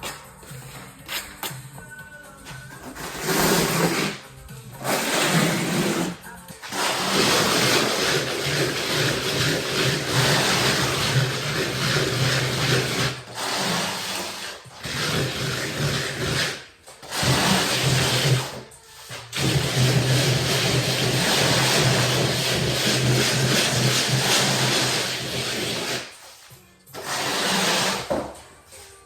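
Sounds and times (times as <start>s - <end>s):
electric drill mixing plaster: 2.9s - 26.2s, 26.9s - 28.2s.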